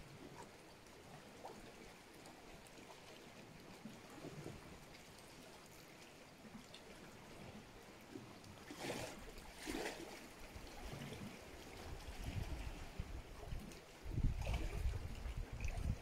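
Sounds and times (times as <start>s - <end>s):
small waves lapping on pebbles: 1.0s - 16.0s.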